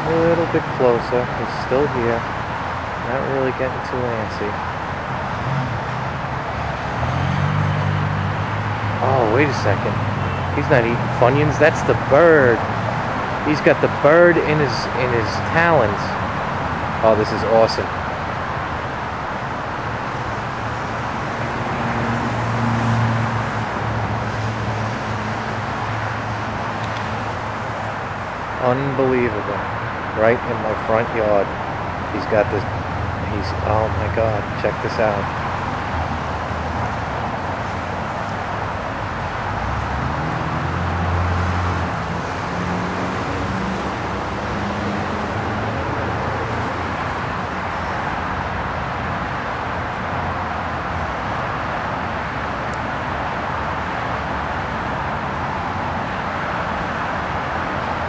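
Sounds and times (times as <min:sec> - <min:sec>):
car passing: 0:00.0 - 0:58.0
road traffic noise: 0:00.0 - 0:58.0.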